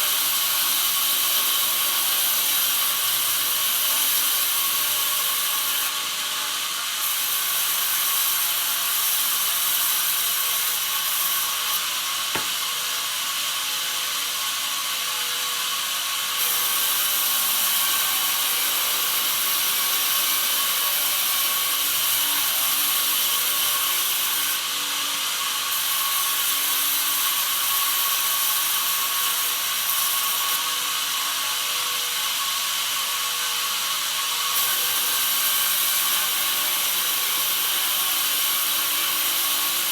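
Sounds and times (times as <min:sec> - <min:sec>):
bandsaw mill sawing log: 0:00.0 - 0:39.9.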